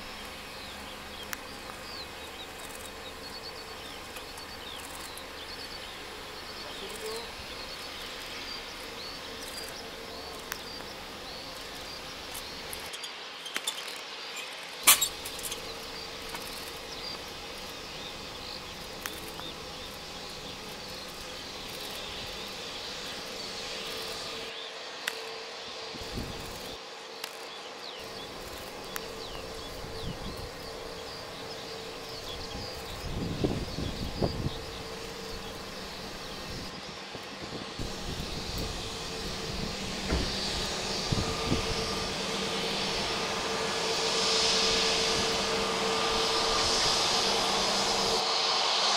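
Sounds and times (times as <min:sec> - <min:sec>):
insects chirping and buzzing: 0:00.0 - 0:48.9.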